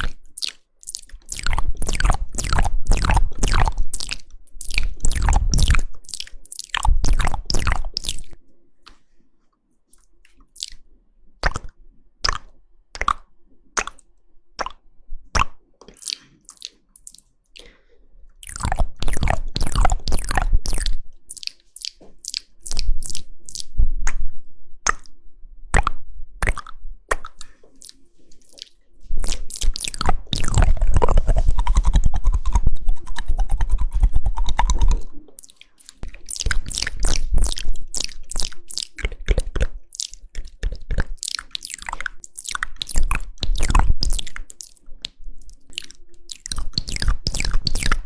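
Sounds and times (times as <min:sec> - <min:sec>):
wet mouth clicks and smacks: 0:00.0 - 0:09.1, 0:09.9 - 0:48.0.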